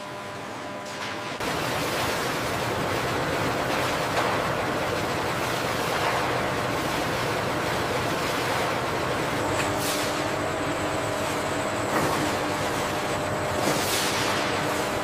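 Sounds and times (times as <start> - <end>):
faint machine hum: 0.0 - 15.0.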